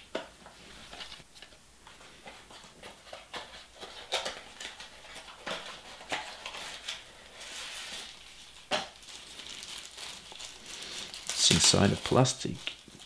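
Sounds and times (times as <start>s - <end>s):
light rustling of wrapping: 0.7s - 13.0s.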